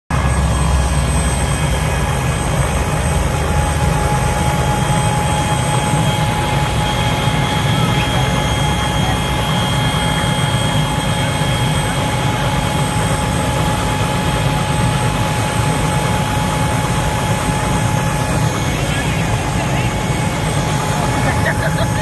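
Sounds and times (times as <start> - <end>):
helicopter rotor rumble: 0.1 - 22.0
thin steady whine: 0.1 - 22.0.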